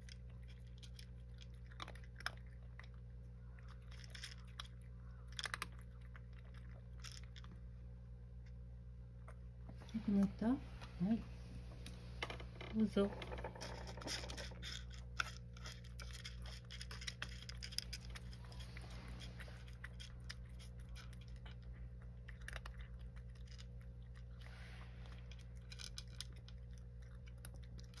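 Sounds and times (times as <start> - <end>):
cat crunching dry kibble: 0.0 - 28.0
steady low hum: 0.0 - 28.0.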